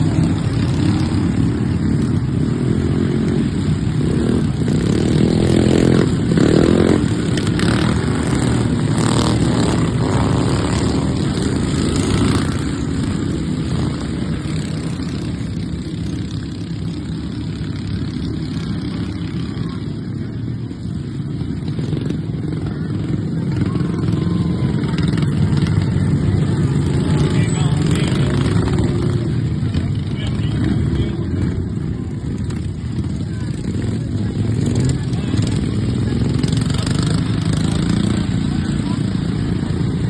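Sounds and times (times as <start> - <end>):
lawnmower engines revving: 0.0 - 40.0.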